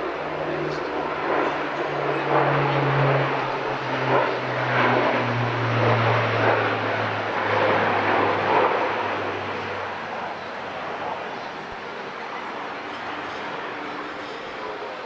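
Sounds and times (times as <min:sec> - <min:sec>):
broad rushing noise: 0:00.0 - 0:15.0
turboprop engines droning: 0:00.0 - 0:15.0.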